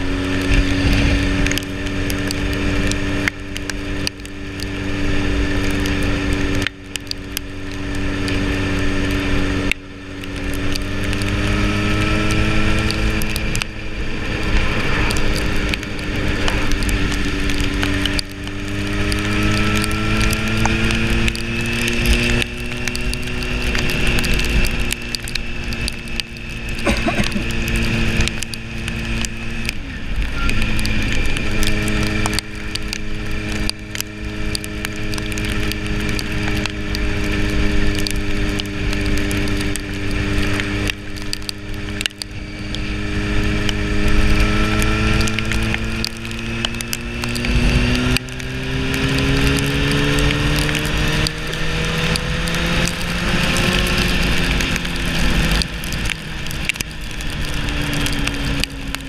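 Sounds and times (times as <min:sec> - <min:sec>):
motorcycle engine revving through gears: 0:00.0 - 0:59.0
wind noise: 0:00.0 - 0:59.0.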